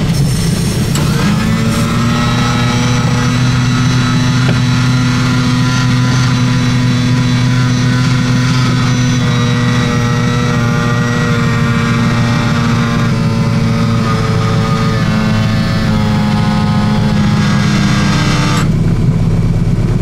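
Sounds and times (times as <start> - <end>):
aircraft piston engine drone: 0.0 - 20.0.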